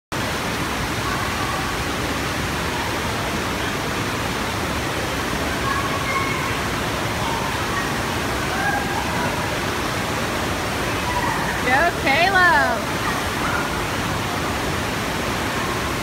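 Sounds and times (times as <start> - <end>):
rushing water: 0.1 - 16.0.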